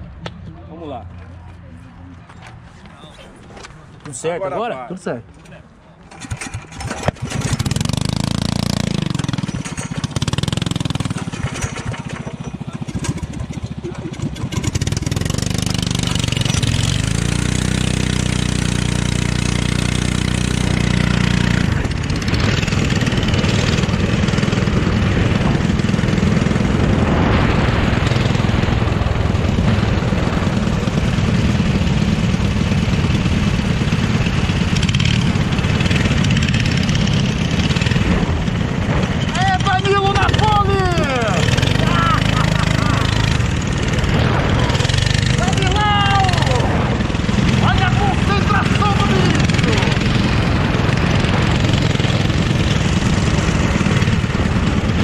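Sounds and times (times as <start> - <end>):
go-kart engine revving: 6.1 - 55.0.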